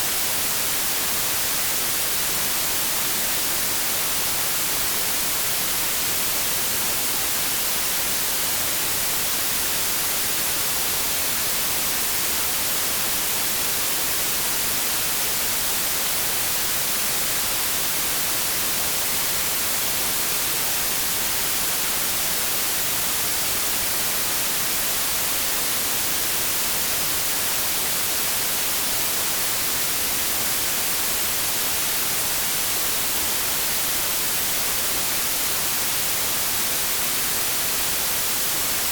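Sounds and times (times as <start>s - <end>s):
white noise: 0.0s - 38.9s.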